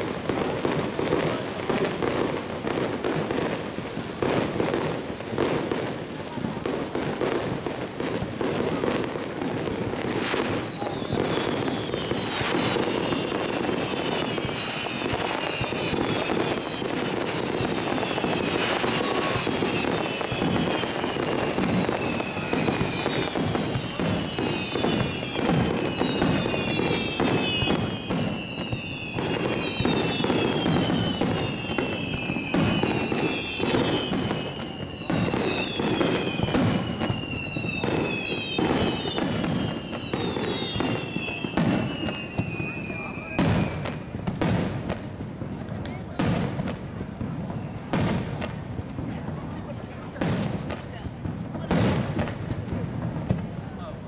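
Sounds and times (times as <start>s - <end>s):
falling firework whistles: 0.0s - 54.0s
fireworks bursting and crackling: 0.0s - 54.0s.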